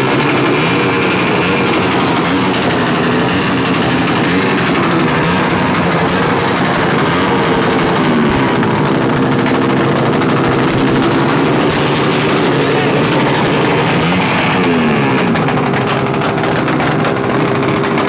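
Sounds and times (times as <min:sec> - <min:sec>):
exhaust backfire pops: 0:00.0 - 0:18.0
motorcycle engine revving: 0:00.0 - 0:18.0.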